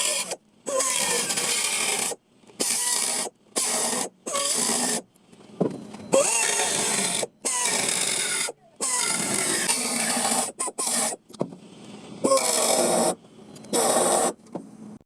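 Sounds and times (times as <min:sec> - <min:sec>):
power tool on sheet metal: 0:00.0 - 0:05.0, 0:06.1 - 0:11.2, 0:12.2 - 0:14.4.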